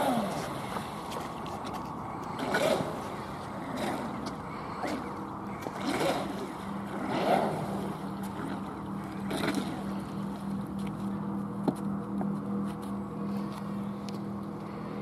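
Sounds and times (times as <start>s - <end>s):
electric boat motor surging: 0.0s - 15.0s
steady low hum: 0.0s - 15.0s.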